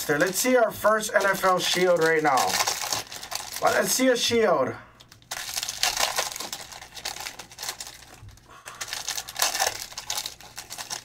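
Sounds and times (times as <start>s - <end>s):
foil wrappers crinkling: 0.0s - 4.2s, 5.0s - 11.0s.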